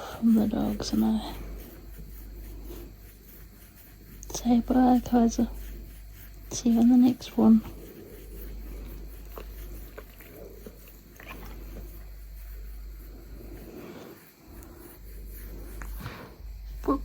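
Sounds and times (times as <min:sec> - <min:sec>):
dog snuffling: 0:00.0 - 0:17.0
steady low hum: 0:00.0 - 0:17.0.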